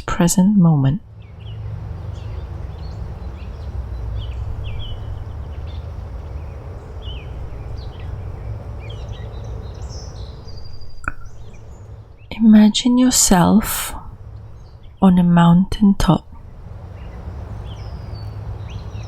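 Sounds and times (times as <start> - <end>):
low rushing background: 0.0 - 19.0
small birds chirping: 0.0 - 19.0.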